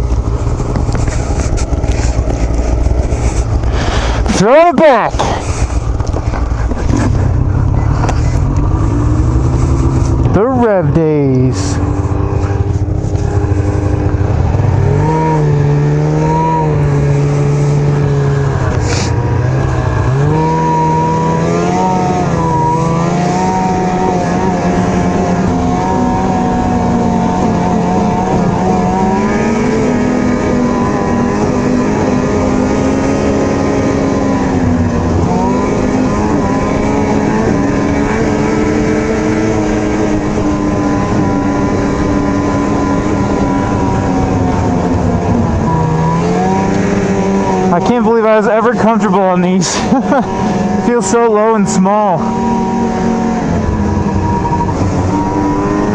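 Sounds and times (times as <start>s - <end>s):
snowmobile engine running: 0.0s - 55.9s
wind and track noise: 0.0s - 55.9s.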